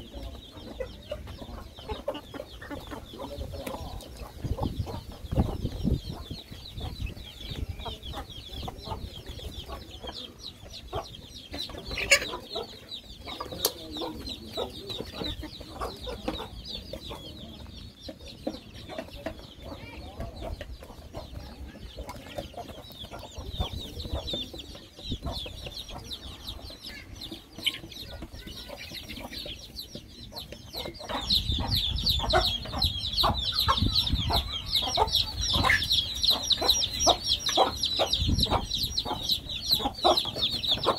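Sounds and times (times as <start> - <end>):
chickens clucking: 0.0 - 40.9
chickens pecking feed: 0.0 - 40.9.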